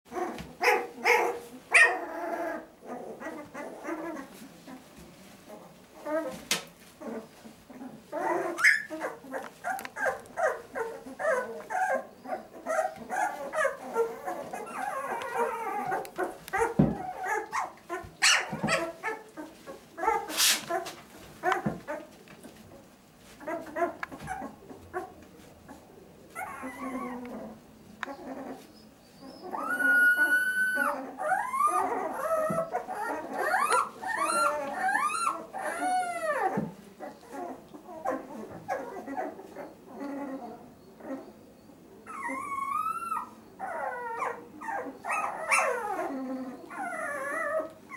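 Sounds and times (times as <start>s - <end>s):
puppies whimpering and squeaking: 0.1s - 47.9s.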